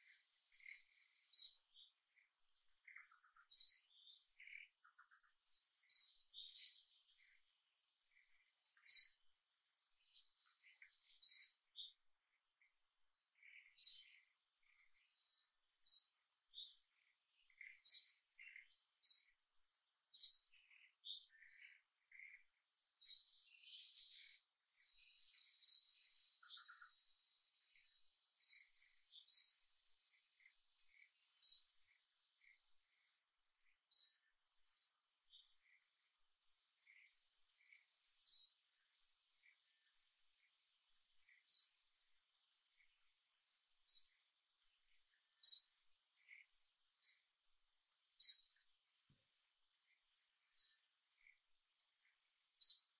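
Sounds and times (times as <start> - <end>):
birds chirping: 0.0 - 52.9
faint high insect tone: 0.0 - 52.9.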